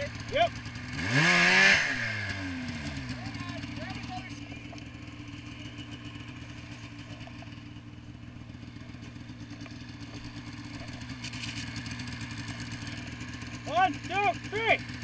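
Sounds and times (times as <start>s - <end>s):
snowmobile engine idling: 0.0s - 15.0s.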